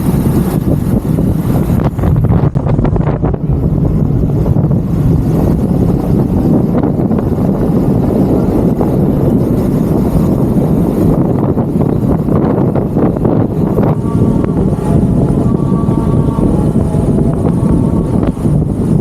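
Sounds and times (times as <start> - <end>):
vehicle road and wind noise: 0.0 - 19.0.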